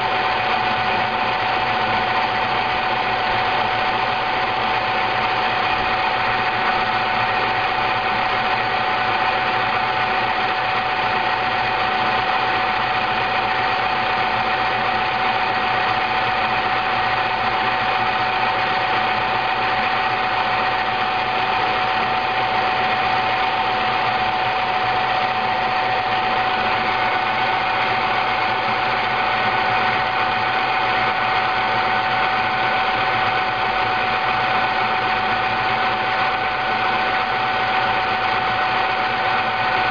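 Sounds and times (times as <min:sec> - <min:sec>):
milk frother motor whirring: 0:00.0 - 0:39.9.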